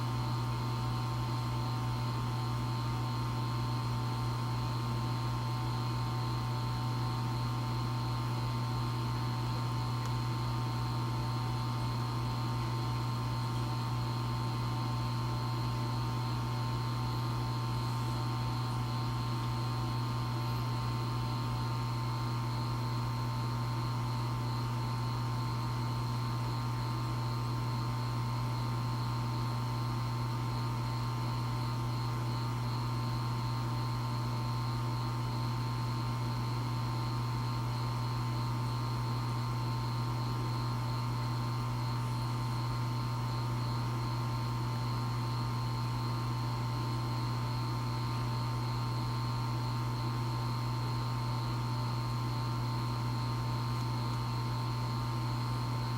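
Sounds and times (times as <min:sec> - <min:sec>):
aquarium pump humming with whine: 0:00.0 - 0:55.9.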